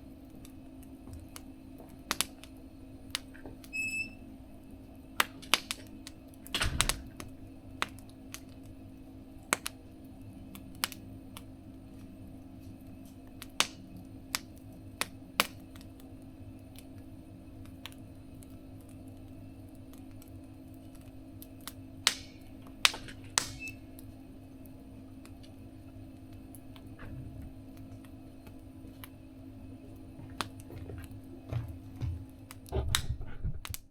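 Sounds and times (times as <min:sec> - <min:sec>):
steady low hum: 0:00.0 - 0:33.9
wood fire popping: 0:00.0 - 0:33.9.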